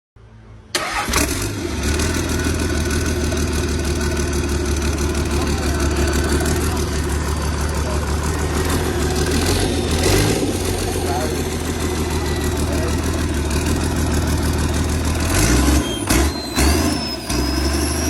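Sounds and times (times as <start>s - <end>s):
engine starting and running: 0.4s - 18.0s.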